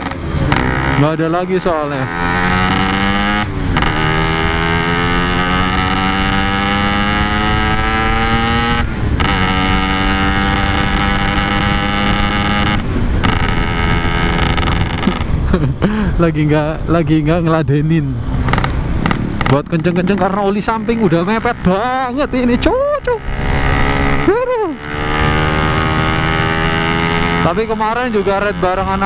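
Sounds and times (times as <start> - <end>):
two-stroke motorcycle engine: 0.0 - 15.6, 18.4 - 29.0.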